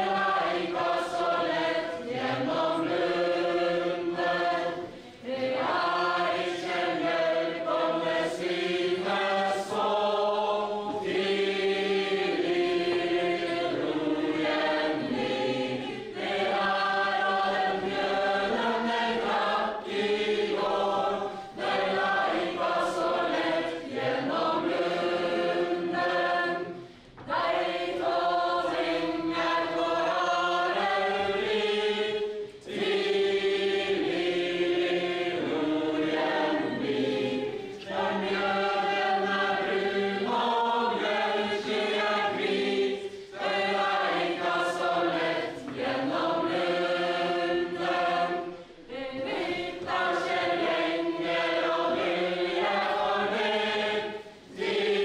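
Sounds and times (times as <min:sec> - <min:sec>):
men and women singing unaccompanied: 0:00.0 - 0:55.0.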